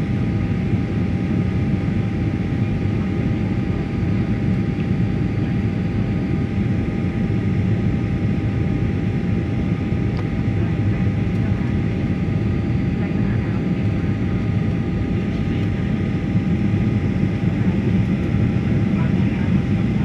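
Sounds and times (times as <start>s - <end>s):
jet engine roar and rushing air: 0.0s - 20.0s.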